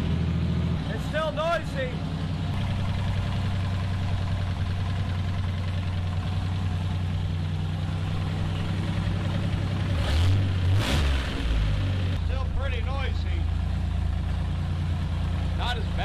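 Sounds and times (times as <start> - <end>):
car engine idling with tapping: 0.0 - 16.0.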